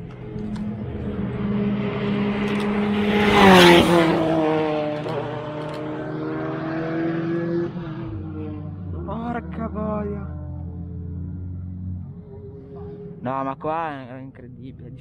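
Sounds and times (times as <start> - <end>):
race car engine passing: 0.0 - 15.0.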